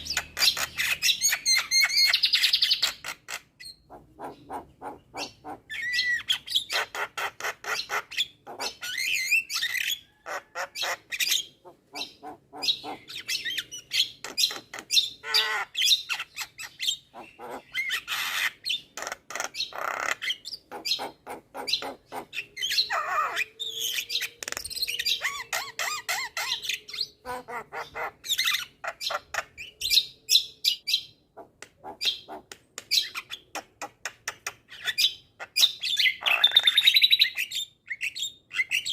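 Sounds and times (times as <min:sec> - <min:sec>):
myna bird singing: 0:00.0 - 0:38.9.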